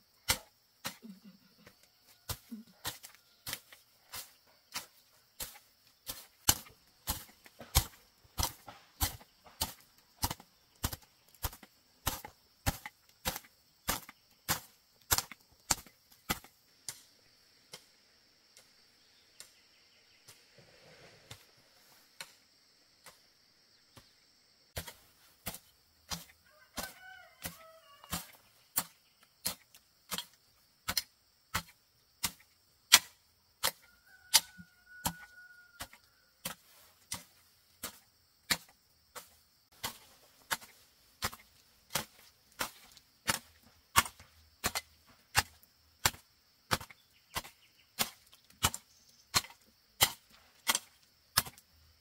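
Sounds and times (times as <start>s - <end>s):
blade chopping bamboo: 0.2s - 1.1s, 2.3s - 17.0s, 24.8s - 51.7s.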